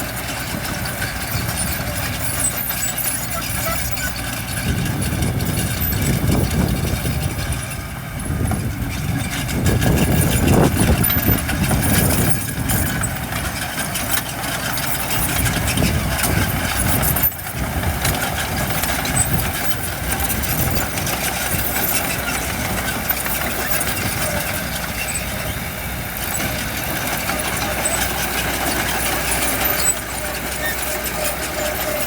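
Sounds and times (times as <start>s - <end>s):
construction machinery diesel engine: 0.0s - 32.0s.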